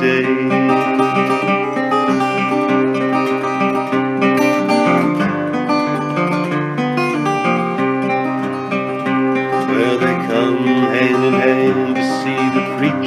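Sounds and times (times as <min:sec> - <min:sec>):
person singing folk song: 0:00.0 - 0:13.0
strummed acoustic guitar: 0:00.0 - 0:13.0.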